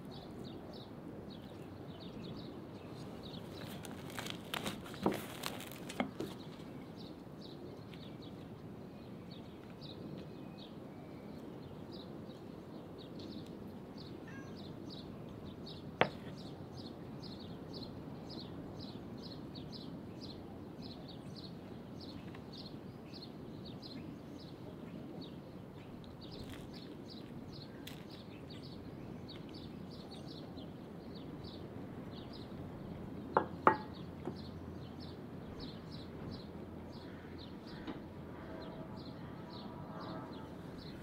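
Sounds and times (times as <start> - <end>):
low outdoor hum: 0.0 - 41.0
small birds chirping: 0.0 - 41.0.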